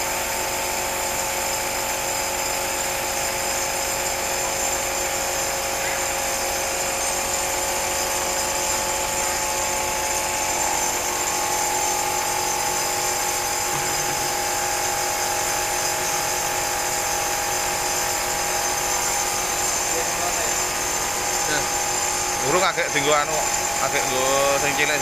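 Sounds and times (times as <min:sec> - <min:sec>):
air compressor running: 0:00.0 - 0:25.0
steady whine: 0:00.9 - 0:25.0.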